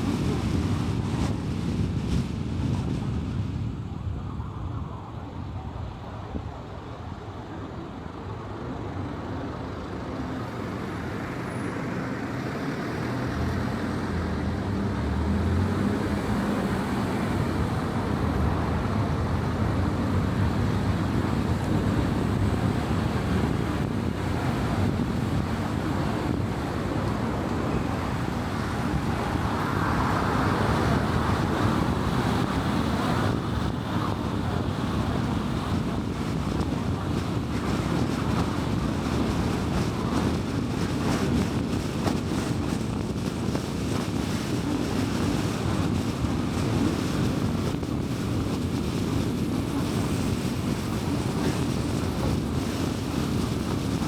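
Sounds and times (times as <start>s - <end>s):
tyre and road noise: 5.1s - 54.0s.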